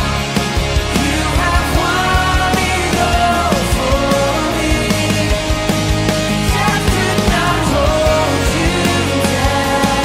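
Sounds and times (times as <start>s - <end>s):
music with steady beat and melody: 0.0s - 10.0s.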